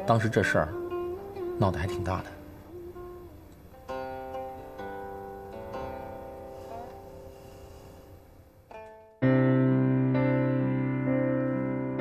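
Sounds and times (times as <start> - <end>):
sustained keyboard notes: 0.0 - 11.2.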